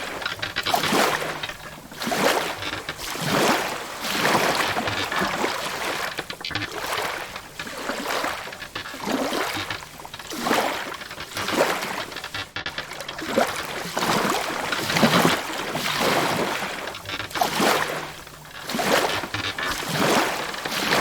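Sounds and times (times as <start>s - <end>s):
water lapping against wooden hull: 0.0s - 21.0s.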